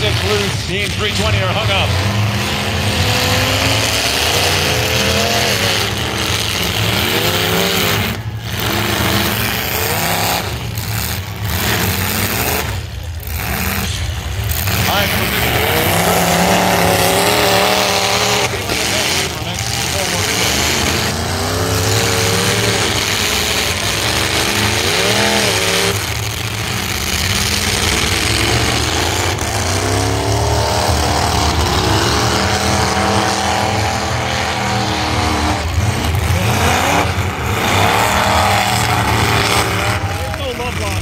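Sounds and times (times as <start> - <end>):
car engines revving: 0.0 - 41.0
cars ramming each other: 0.0 - 41.0.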